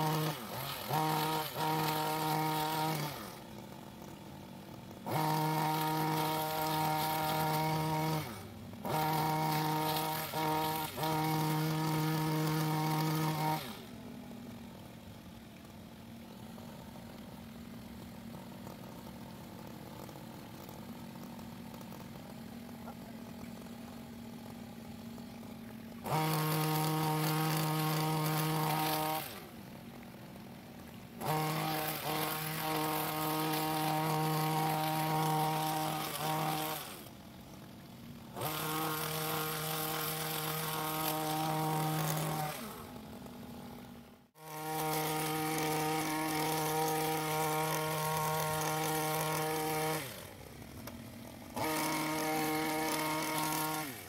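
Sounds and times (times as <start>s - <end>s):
hedge trimmer engine: 0.0s - 54.0s.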